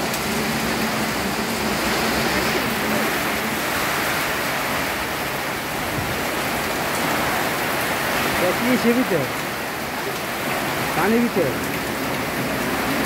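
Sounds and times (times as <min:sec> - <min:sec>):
torrential rain pouring: 0:00.0 - 0:13.0.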